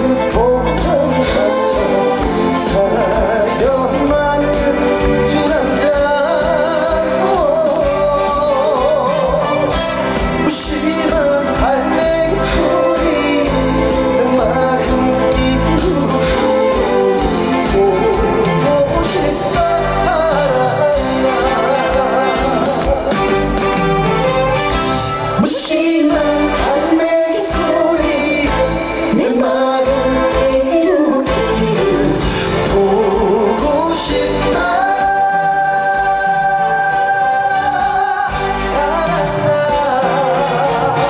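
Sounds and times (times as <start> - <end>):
person singing with wide vibrato: 0.0 - 23.9, 25.1 - 41.0
band backing with steady beat: 0.0 - 41.0.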